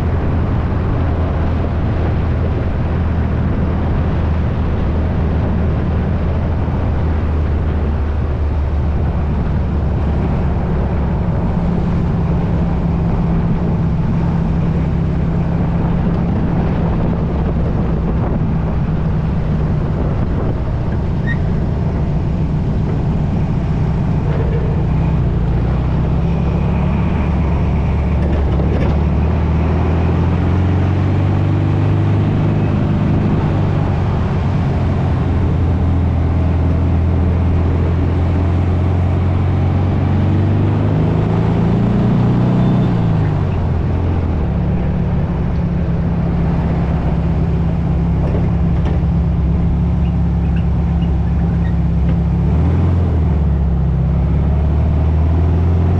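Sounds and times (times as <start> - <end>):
dune buggy engine running: 0.0 - 55.9.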